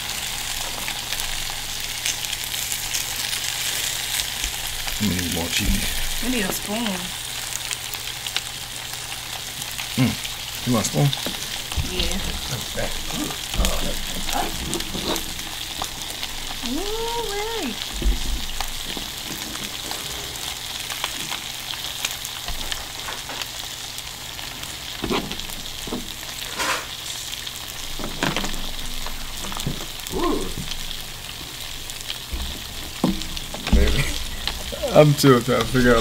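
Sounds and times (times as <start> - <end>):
food sizzling on hot stone: 0.0 - 36.0.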